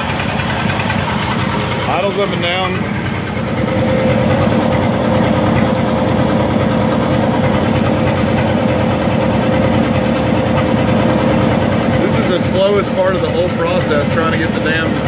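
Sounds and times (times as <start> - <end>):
gasoline engine running: 0.0 - 15.0.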